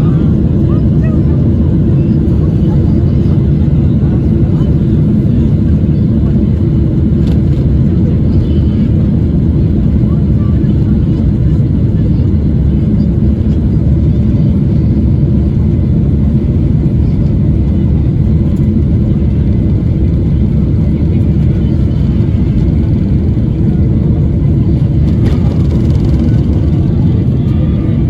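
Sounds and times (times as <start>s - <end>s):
aircraft cabin rumble: 0.0s - 28.0s.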